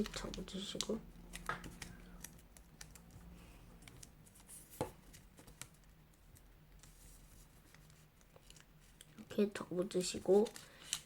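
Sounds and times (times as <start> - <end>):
paper being folded and creased: 0.0 - 9.2, 9.9 - 11.0.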